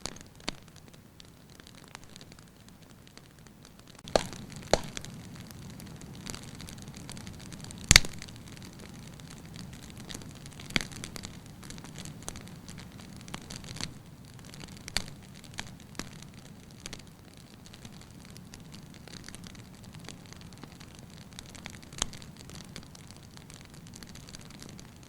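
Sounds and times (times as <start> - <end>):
fire pops and cracks: 0.0 - 25.0
fire hissing: 0.4 - 24.8.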